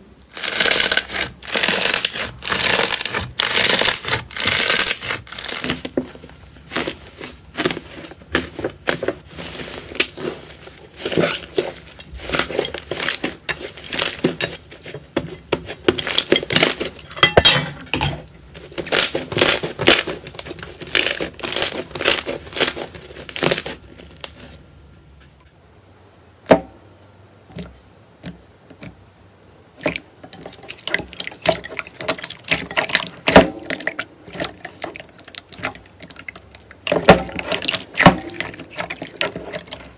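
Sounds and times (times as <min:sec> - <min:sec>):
slime crackling and popping: 0:00.3 - 0:17.2, 0:18.5 - 0:24.5, 0:29.8 - 0:39.9.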